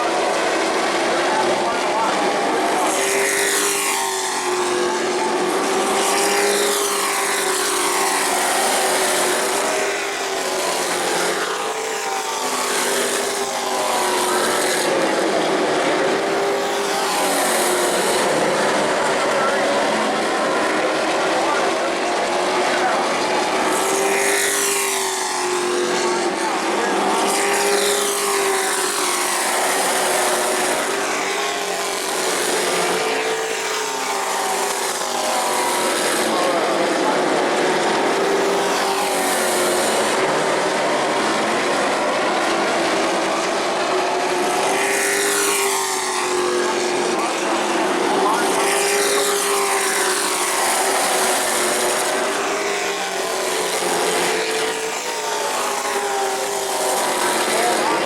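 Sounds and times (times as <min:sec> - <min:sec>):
race truck engines droning: 0:00.0 - 0:58.0.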